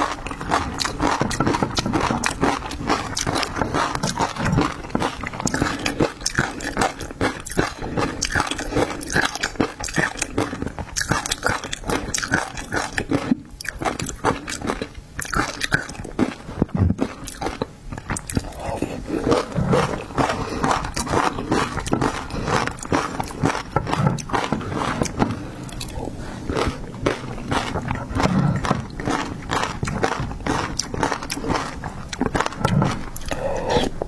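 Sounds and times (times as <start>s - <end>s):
wet chewing and crunching: 0.0s - 34.0s.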